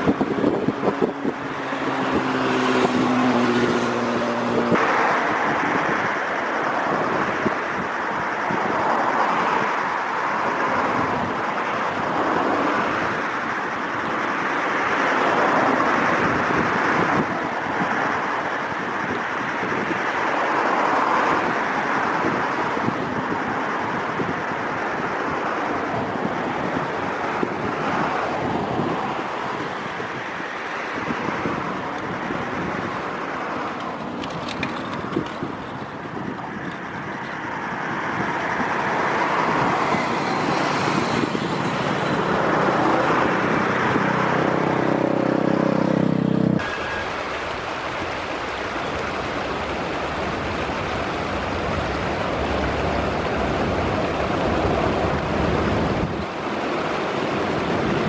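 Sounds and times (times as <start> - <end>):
passing road traffic: 0.0 - 58.0
wind on microphone: 0.0 - 58.0.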